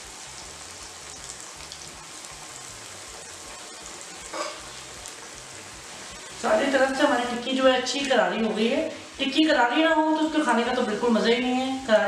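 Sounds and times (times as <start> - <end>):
food deep-frying sizzle: 0.0 - 12.0.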